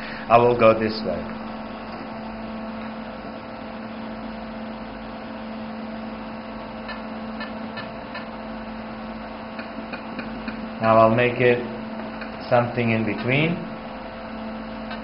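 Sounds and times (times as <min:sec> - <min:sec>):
cooling fan humming: 0:00.0 - 0:15.0.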